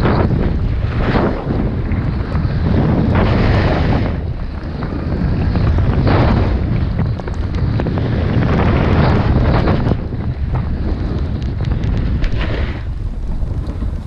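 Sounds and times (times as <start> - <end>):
snowboard scraping on snow: 0.0 - 7.0, 7.6 - 10.0, 10.6 - 14.0
wind buffeting microphone: 0.0 - 14.0.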